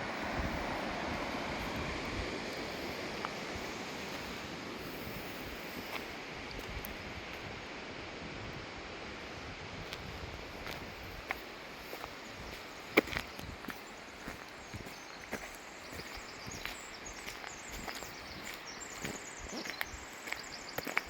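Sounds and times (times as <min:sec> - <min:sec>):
river rushing: 0:00.0 - 0:19.4.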